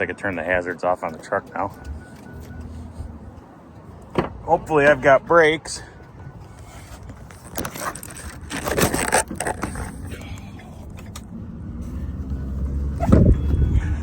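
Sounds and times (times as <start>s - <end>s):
handling clicks and rustling: 0.0s - 11.4s
truck engine rumble: 0.0s - 14.0s.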